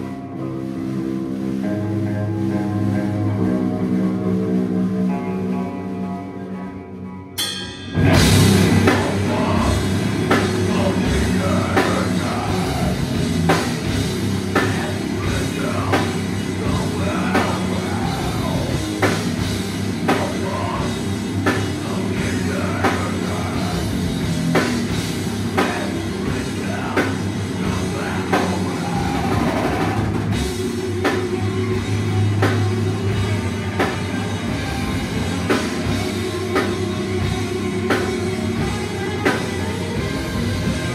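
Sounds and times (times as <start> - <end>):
distorted guitars: 0.0 - 40.9
drum kit: 0.0 - 40.9
vocals: 7.4 - 40.9.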